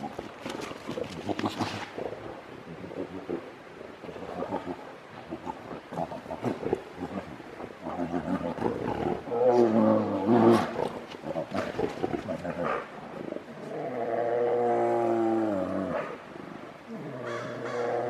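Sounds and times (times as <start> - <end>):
bears calling: 0.0 - 18.0.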